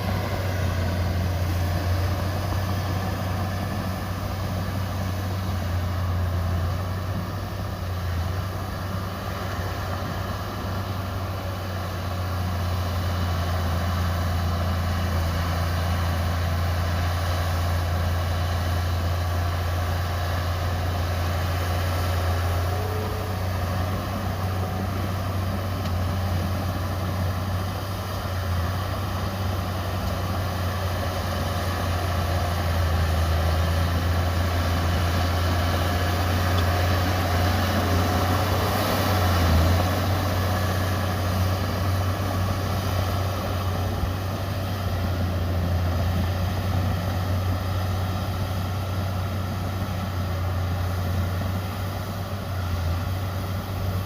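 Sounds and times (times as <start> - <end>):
diesel machinery engine droning: 0.0 - 54.0.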